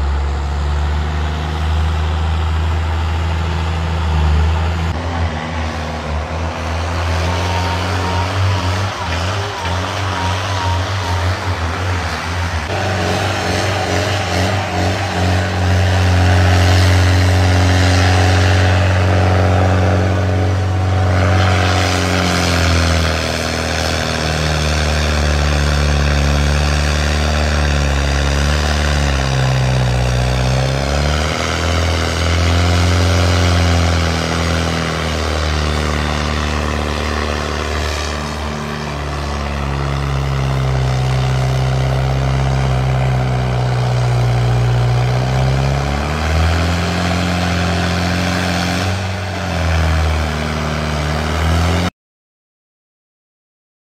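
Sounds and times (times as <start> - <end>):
tractor diesel engine running hard: 0.0 - 51.9.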